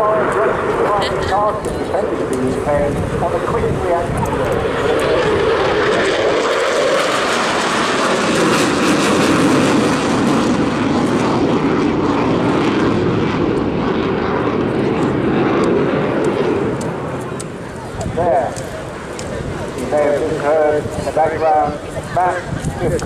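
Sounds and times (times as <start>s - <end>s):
loud jet engine noise: 0.0s - 23.0s.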